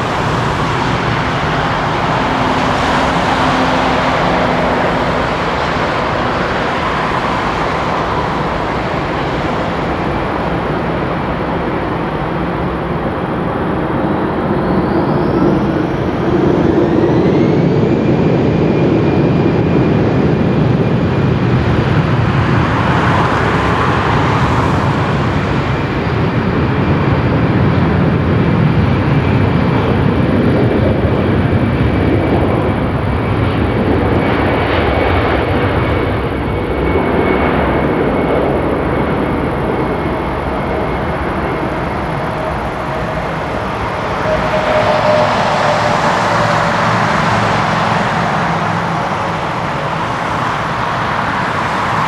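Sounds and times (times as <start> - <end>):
high fan whine: 0.0 - 52.0
jet engines roaring: 0.0 - 52.0.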